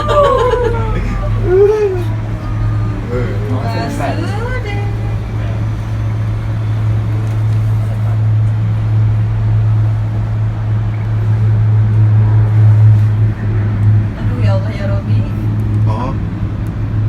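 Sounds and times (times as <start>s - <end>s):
cable car hum and rumble: 0.0s - 17.0s.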